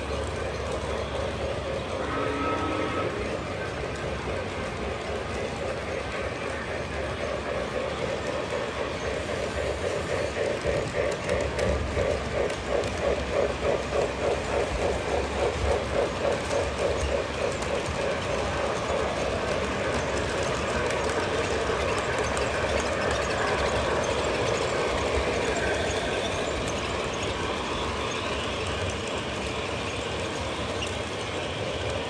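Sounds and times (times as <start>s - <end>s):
model train rumbling on track: 0.0s - 32.0s.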